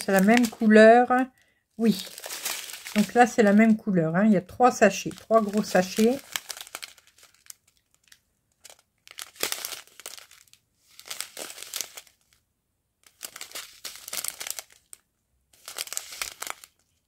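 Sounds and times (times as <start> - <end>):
plastic sachets crinkling: 0.0 - 12.4, 13.0 - 17.0.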